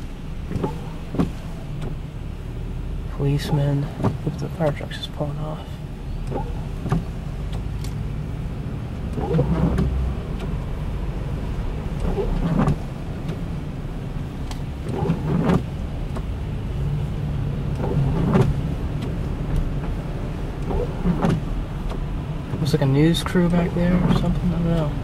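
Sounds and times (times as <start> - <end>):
car engine hum: 0.0 - 25.0.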